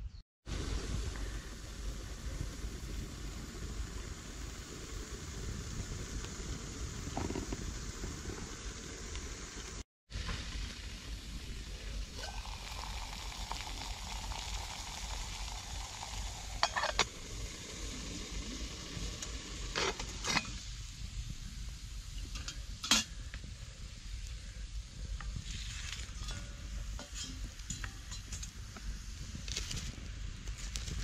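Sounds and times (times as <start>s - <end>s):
wood fire hissing and sizzling: 0.4s - 31.0s.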